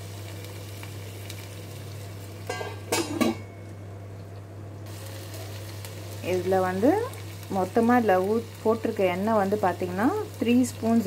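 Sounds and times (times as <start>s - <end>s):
chicken sizzling in a pan: 0.0s - 3.4s, 4.8s - 11.0s.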